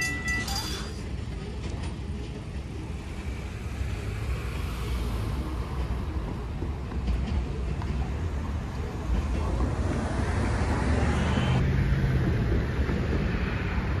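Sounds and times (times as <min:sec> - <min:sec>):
freight train rumble: 0:00.0 - 0:14.0
road traffic rumble: 0:00.0 - 0:14.0.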